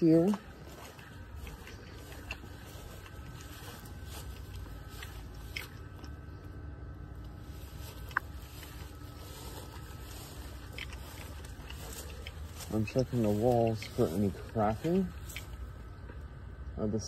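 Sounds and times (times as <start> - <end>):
footsteps through grass: 0.0 - 16.2.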